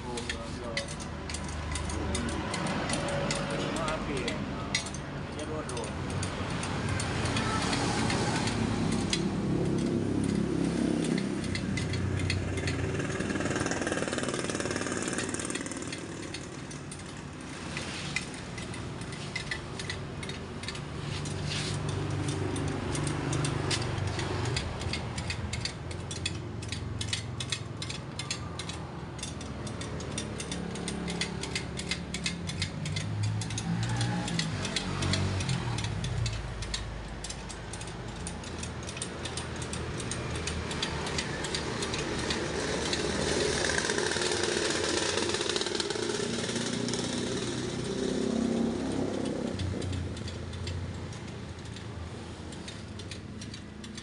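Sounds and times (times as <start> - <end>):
spoke wrench clicking: 0.0 - 54.0.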